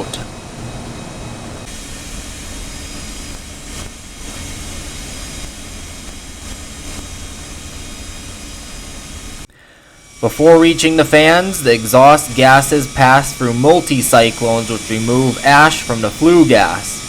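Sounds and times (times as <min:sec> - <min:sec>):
faint thin whine: 0:00.0 - 0:17.0
steam turbines running: 0:00.0 - 0:17.0.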